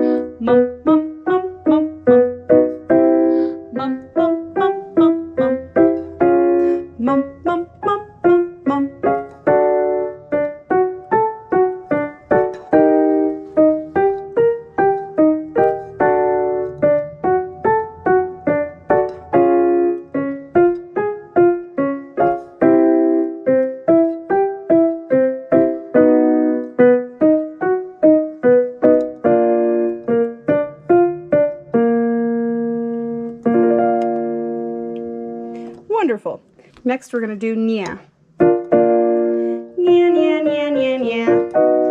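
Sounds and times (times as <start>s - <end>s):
piano notes and chords: 0.0s - 36.3s, 37.6s - 41.9s.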